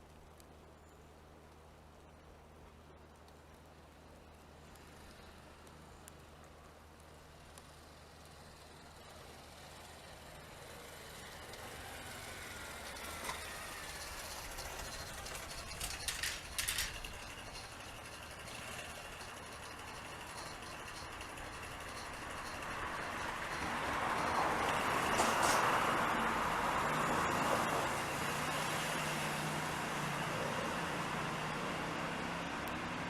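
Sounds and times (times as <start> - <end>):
vehicle approaching: 4.1 - 33.0.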